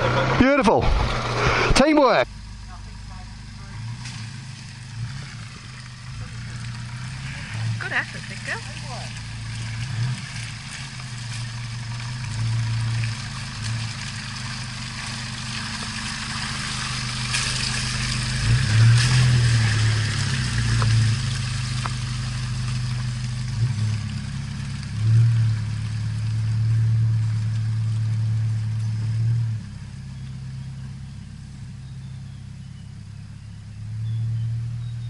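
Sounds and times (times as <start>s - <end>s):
vehicle engine revving: 0.0s - 35.0s.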